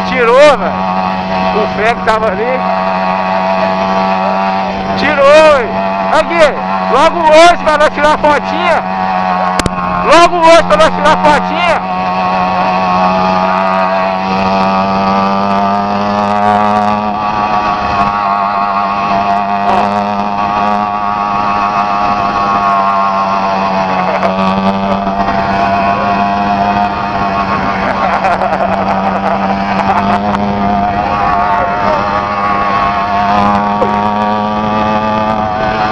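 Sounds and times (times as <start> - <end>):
two-stroke engine running: 0.0 - 35.9.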